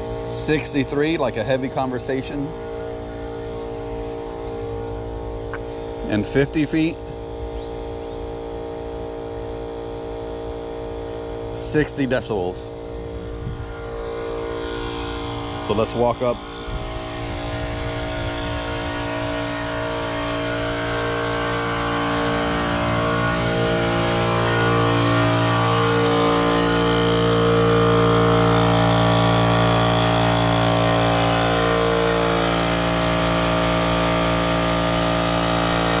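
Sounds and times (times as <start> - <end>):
air compressor running: 0.0 - 36.0.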